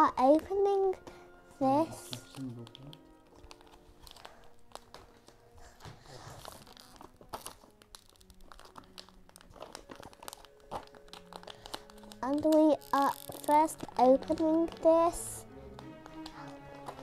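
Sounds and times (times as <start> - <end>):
packaging crinkling and rustling: 1.9 - 17.0.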